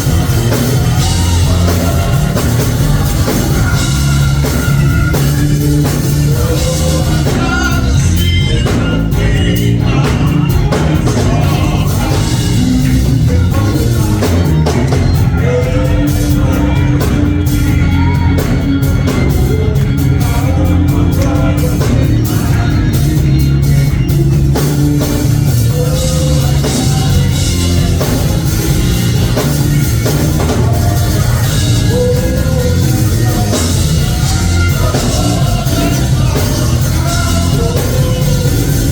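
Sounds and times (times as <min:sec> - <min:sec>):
band with drum kit playing: 0:00.0 - 0:38.9
people singing: 0:00.0 - 0:38.9.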